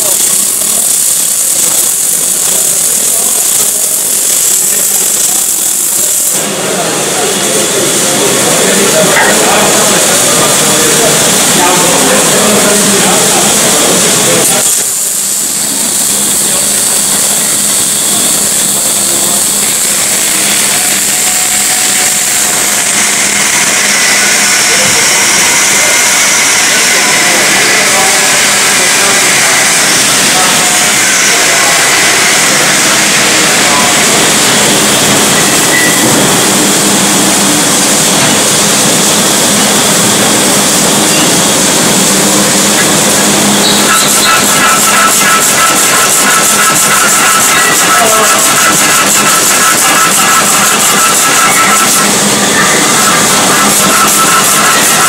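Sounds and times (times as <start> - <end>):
welding arc crackling hiss: 0.0 - 55.0.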